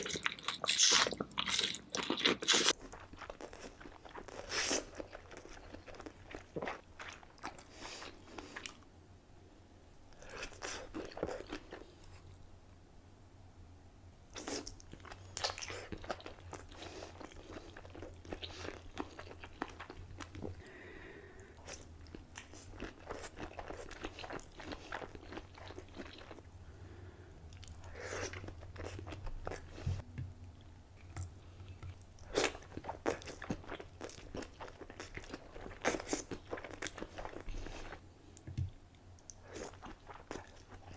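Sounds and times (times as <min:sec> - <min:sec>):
close-miked crunching and chewing: 0:00.0 - 0:08.9, 0:10.1 - 0:12.4, 0:14.3 - 0:20.7, 0:21.5 - 0:26.5, 0:27.5 - 0:40.9.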